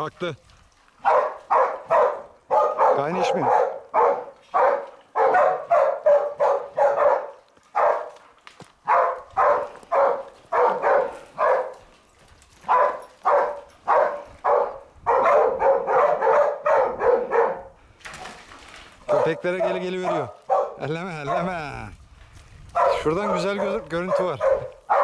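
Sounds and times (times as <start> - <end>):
dogs barking: 1.0 - 8.2, 8.8 - 11.9, 12.6 - 17.8, 19.0 - 21.6, 22.7 - 25.0.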